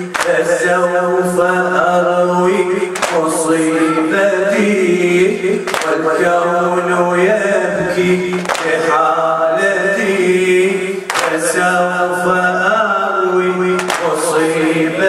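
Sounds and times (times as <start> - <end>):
man chanting a lament: 0.0 - 15.0.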